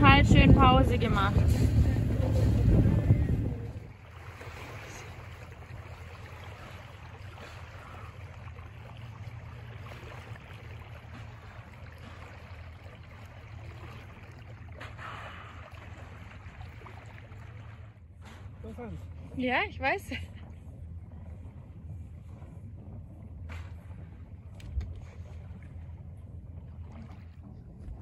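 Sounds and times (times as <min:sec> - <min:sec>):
low steady hum: 0:00.0 - 0:28.0
water rushing along hull: 0:00.0 - 0:28.0.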